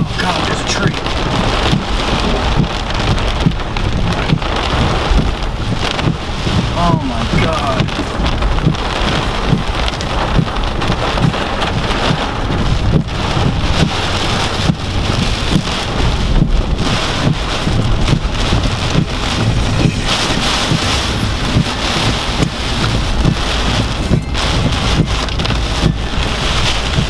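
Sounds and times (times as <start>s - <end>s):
heavy rain and wind: 0.0s - 27.0s
rain knocking on a surface: 0.0s - 27.0s.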